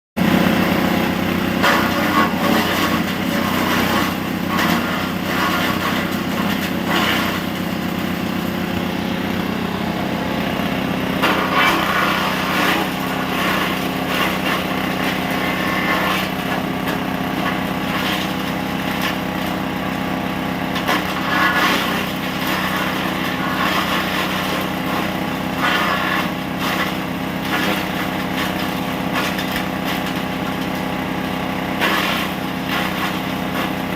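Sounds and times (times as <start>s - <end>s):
small engine running: 0.2s - 33.9s.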